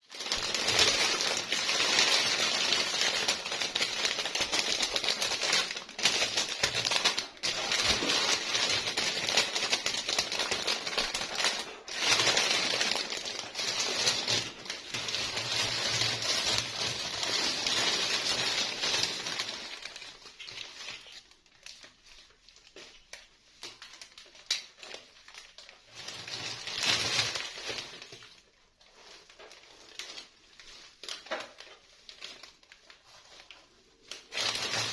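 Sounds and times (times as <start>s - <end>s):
toy packaging crinkling: 0.0s - 34.9s.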